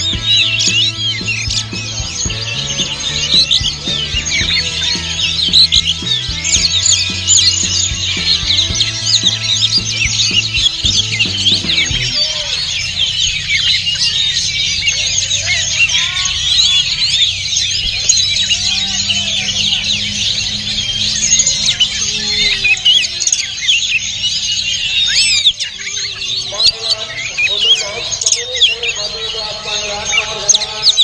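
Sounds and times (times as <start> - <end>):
songbirds chirping and whistling: 0.0 - 31.0.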